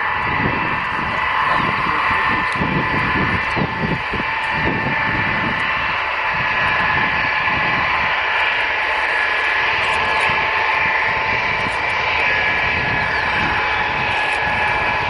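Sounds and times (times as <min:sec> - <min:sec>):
jet engines whining: 0:00.0 - 0:15.0
rush of jet noise: 0:00.0 - 0:15.0.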